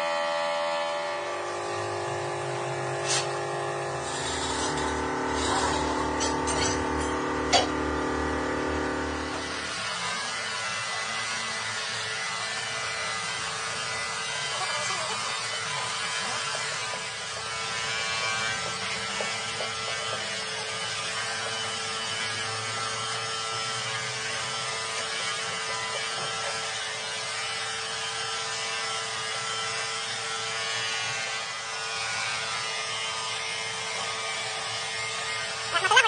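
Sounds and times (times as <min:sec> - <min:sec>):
angle grinder grinding steel: 0:01.2 - 0:36.0.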